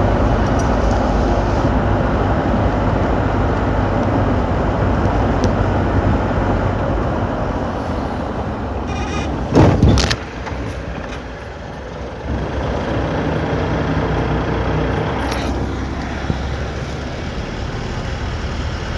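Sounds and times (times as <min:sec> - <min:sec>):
car engine and road rumble: 0:00.0 - 0:18.9.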